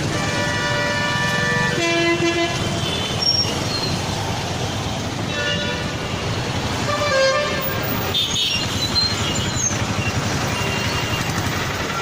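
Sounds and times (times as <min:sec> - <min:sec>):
vehicle horns honking: 0:00.0 - 0:04.0, 0:05.2 - 0:06.2, 0:06.8 - 0:12.0
steady traffic noise: 0:00.0 - 0:12.0.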